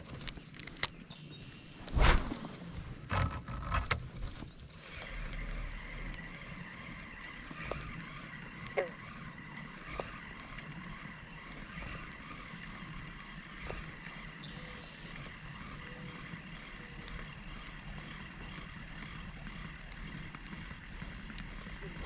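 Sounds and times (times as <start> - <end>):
small ticks: 3.1 - 22.0.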